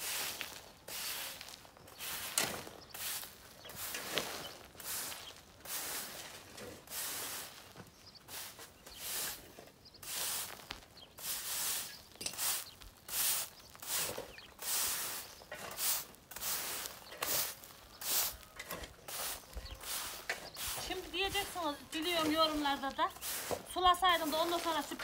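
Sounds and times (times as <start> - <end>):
push broom sweeping dirt: 0.0 - 25.0.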